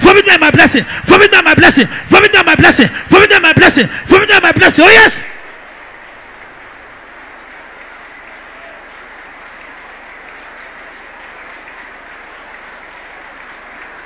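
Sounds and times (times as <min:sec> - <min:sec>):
congregation praying aloud: 0:00.0 - 0:14.0.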